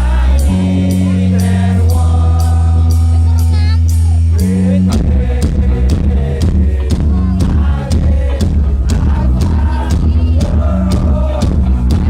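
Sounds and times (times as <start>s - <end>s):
band music playing loud: 0.0s - 12.0s
steady drum beat: 0.0s - 12.0s
strong bass line: 0.0s - 12.0s.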